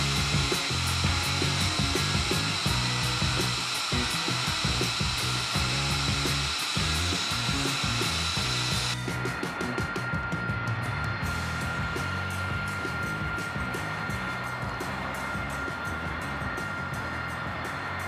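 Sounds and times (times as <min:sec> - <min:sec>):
background music with beat: 0:00.0 - 0:18.0
jet engine whining: 0:00.0 - 0:18.0.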